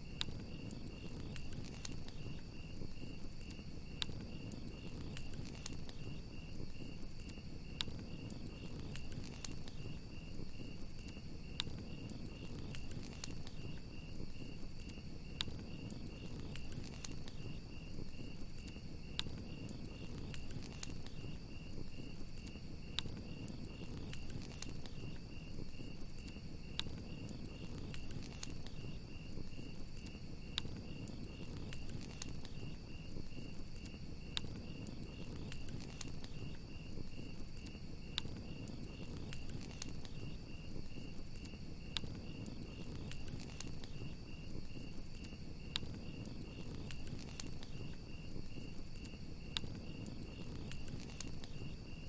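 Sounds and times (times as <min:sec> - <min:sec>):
crickets chirping: 0:00.0 - 0:52.0
wood fire crackling: 0:00.0 - 0:52.0.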